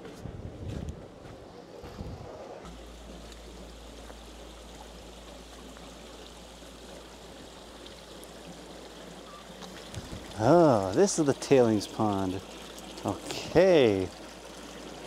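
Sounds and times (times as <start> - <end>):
water running in a channel: 0.0 - 15.0.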